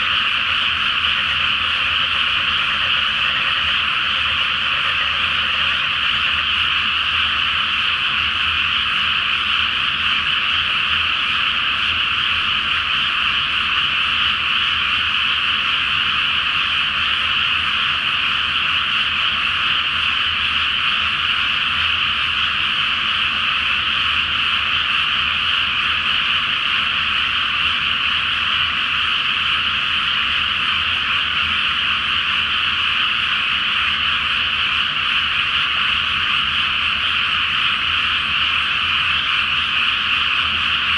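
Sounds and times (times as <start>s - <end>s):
frogs croaking: 0.0s - 40.9s.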